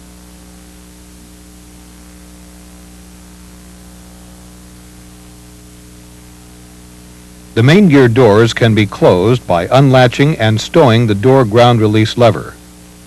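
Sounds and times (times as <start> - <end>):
even background hiss: 0.0 - 13.0
low electrical hum: 0.0 - 13.0.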